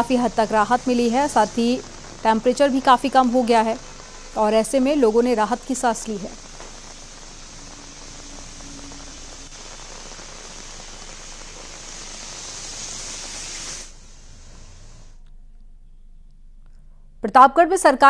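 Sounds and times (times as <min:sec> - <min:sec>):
heavy rain on a wet road: 0:00.0 - 0:15.1
faint hiss: 0:00.0 - 0:15.3.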